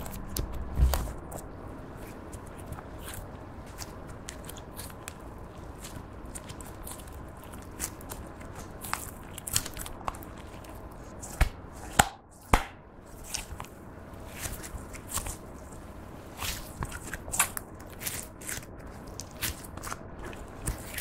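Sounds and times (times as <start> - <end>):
slime crackling and popping: 2.0 - 21.0.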